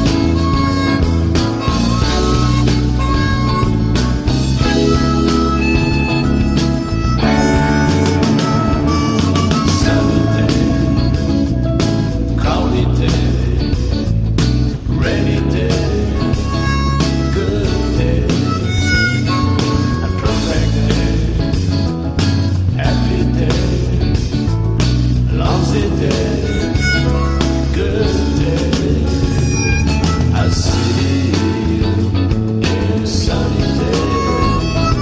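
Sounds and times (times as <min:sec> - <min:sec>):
guitar bass and drums: 0:00.0 - 0:35.0
man singing jazz-rock song: 0:00.0 - 0:35.0.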